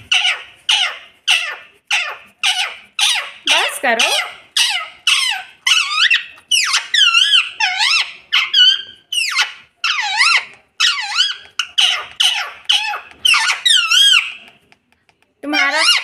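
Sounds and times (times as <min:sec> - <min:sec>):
parakeet screeching: 0:00.0 - 0:14.5, 0:15.4 - 0:16.0.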